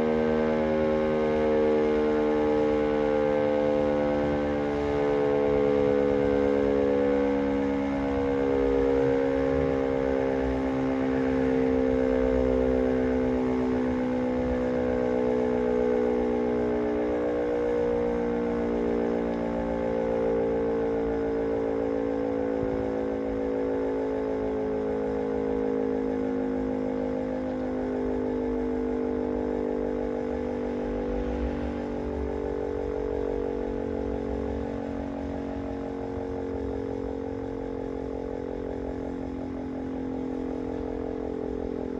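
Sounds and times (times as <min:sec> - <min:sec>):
electric motor siren wailing: 0:00.0 - 0:41.9.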